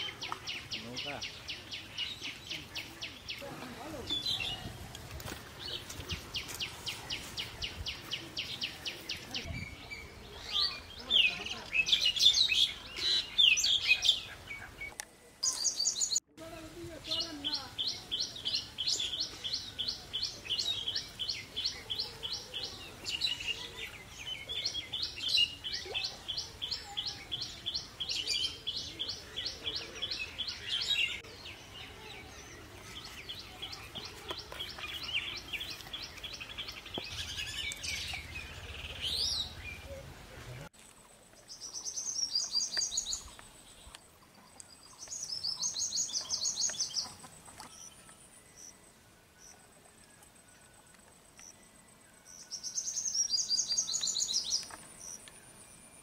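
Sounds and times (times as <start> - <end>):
background noise: 0.0 - 56.0.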